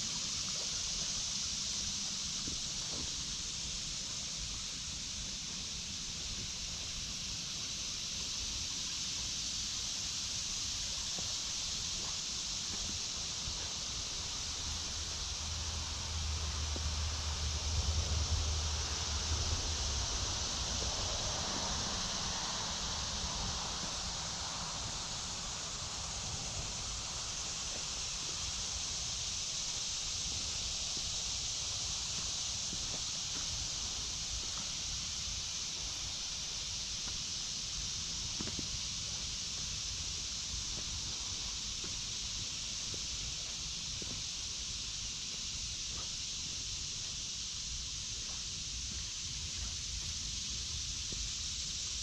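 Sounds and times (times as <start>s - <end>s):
cicadas chorus: 0.0s - 52.0s.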